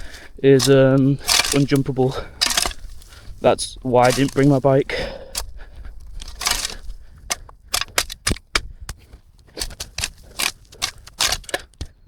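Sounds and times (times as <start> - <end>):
footsteps crunching through undergrowth: 0.0 - 11.8.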